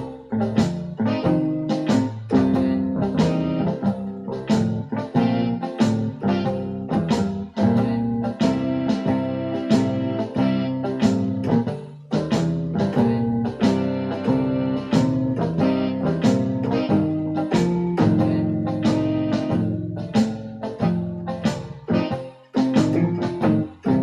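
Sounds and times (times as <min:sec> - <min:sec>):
electronic keyboard playing blues: 0:00.0 - 0:24.0.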